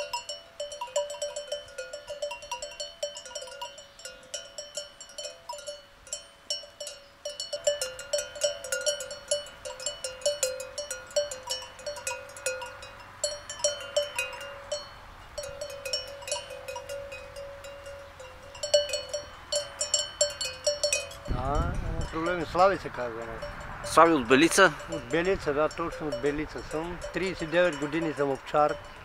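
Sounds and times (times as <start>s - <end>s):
sheep bells clanking: 0.0s - 29.0s.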